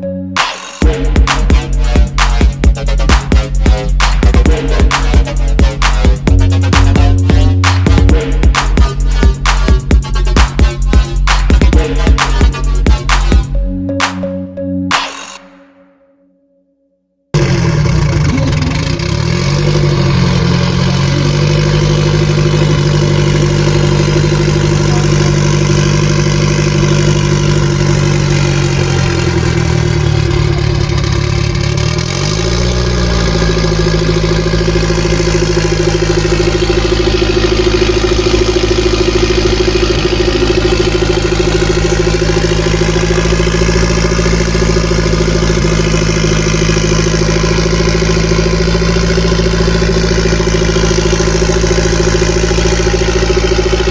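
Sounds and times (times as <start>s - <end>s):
car engine idling: 0.7s - 14.2s, 17.4s - 53.9s.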